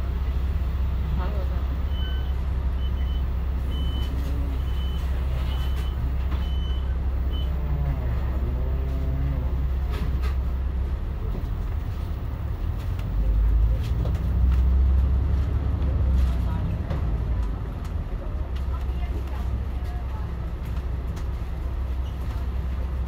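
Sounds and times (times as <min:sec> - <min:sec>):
diesel bus engine rumbling: 0:00.0 - 0:23.0.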